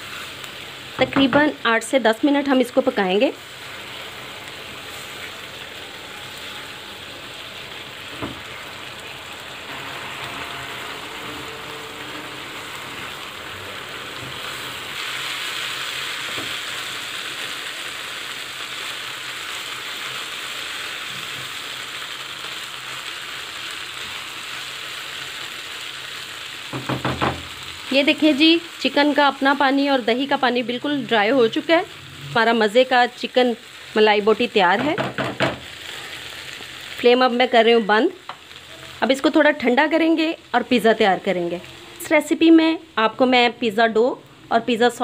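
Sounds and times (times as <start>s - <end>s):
chicken sizzling in a pan: 0.0s - 45.0s.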